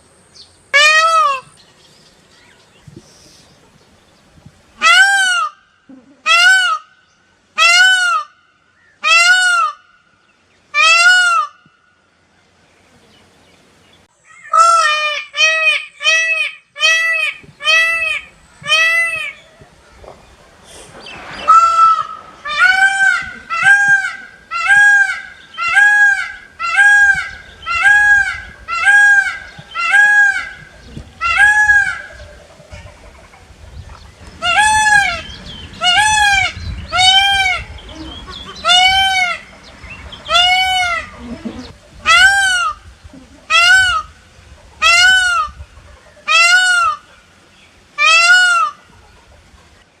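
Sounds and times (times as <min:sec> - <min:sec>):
peacock calling: 0:00.0 - 0:11.8, 0:12.9 - 0:50.0.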